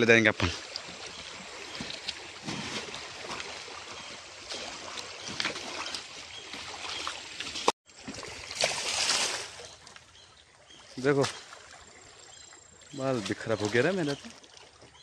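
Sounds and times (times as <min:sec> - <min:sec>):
rush of water: 0:00.0 - 0:10.1, 0:10.7 - 0:15.0
stream water running and splashing: 0:00.0 - 0:15.0.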